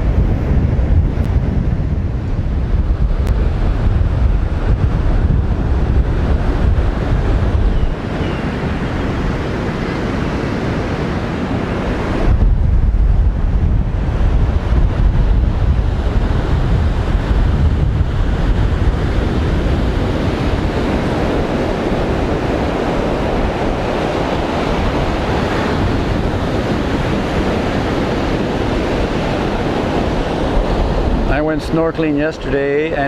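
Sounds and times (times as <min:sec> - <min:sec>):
surf breaking on shore: 0:00.0 - 0:33.0
wind buffeting microphone: 0:00.0 - 0:33.0.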